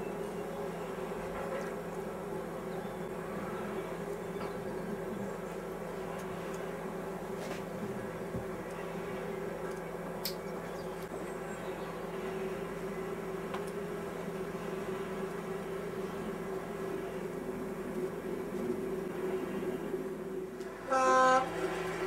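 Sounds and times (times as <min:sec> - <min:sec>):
steady droning hum: 0:00.0 - 0:22.0.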